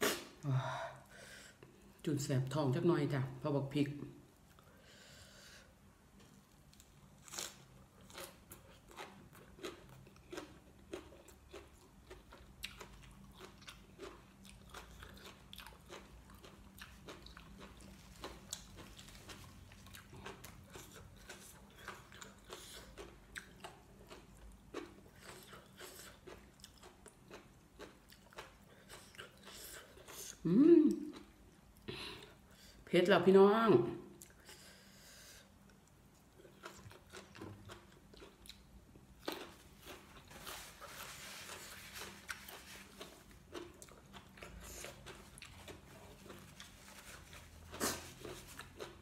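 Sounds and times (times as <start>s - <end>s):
person chewing with crunches: 6.2s - 32.8s, 34.2s - 49.0s.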